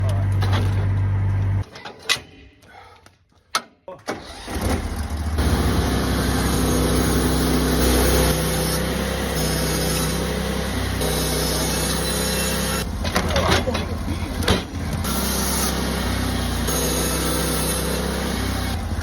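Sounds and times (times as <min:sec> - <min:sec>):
engine starting and running: 0:00.0 - 0:02.2, 0:03.5 - 0:19.0.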